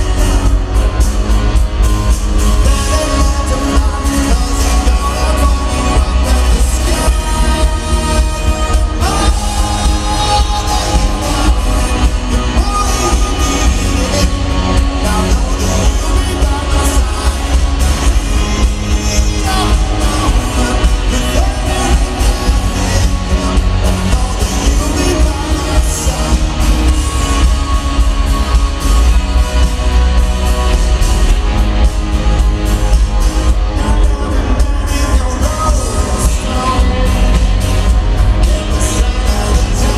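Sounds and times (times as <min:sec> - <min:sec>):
person singing: 0:00.0 - 0:32.0, 0:32.7 - 0:39.9
heavy bass: 0:00.0 - 0:39.9
live rock band playing: 0:00.0 - 0:39.9.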